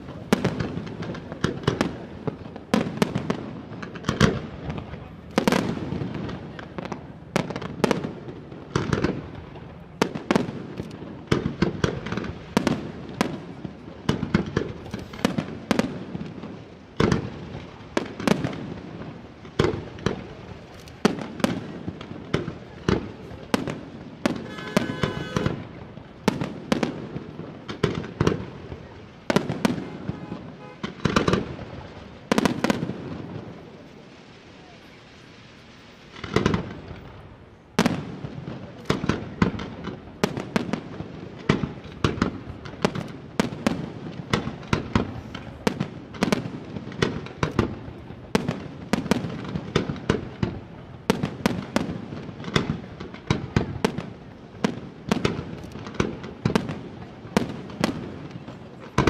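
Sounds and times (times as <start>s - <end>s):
fireworks bursts and launches: 0.0s - 59.0s.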